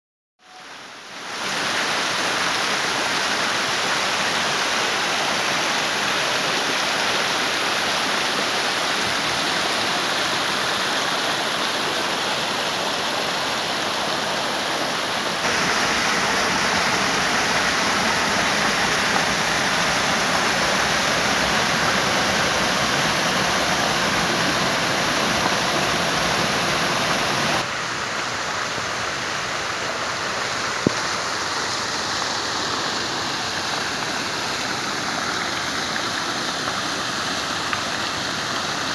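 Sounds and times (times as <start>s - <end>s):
stream rushing over rocks: 0.5s - 38.9s
small waterfall pouring: 0.7s - 38.9s.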